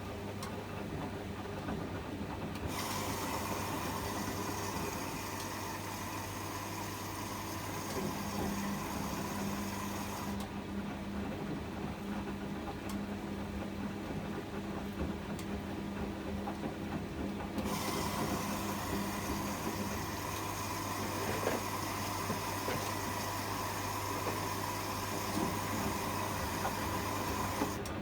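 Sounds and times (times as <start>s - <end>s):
washing machine motor hum: 0.0s - 28.0s
washing machine tone: 0.0s - 28.0s.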